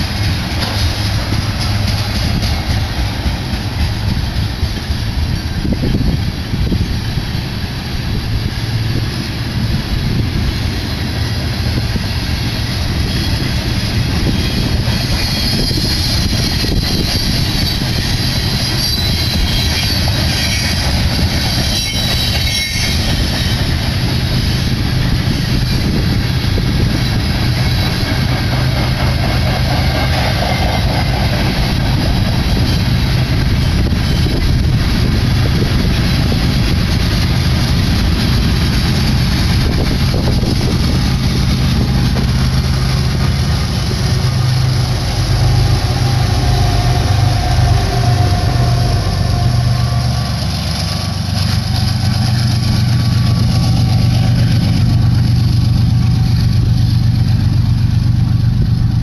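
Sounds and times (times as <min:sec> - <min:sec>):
diesel locomotive engine drone: 0:00.0 - 0:59.0
train wheels rumbling on rails: 0:00.0 - 0:59.0.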